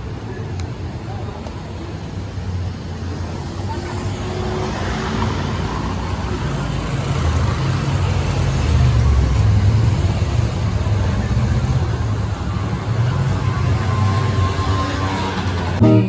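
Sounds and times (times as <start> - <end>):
street noise: 0.0 - 16.0
vehicle engine rumble: 0.0 - 16.0.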